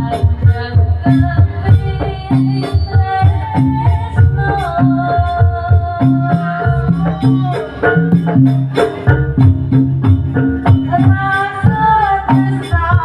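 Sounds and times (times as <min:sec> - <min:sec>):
rapid percussion beat: 0:00.0 - 0:13.0.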